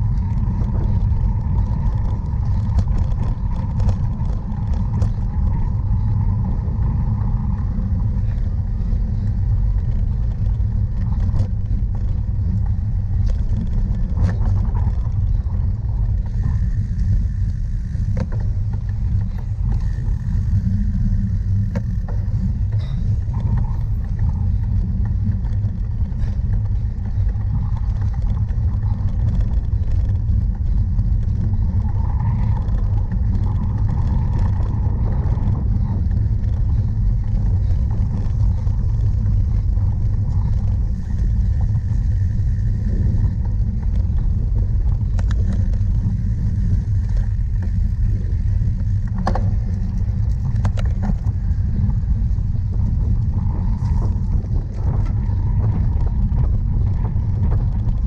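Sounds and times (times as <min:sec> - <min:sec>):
bike rattling over rough ground: 0:00.0 - 0:58.0
wind rumble: 0:00.0 - 0:58.0.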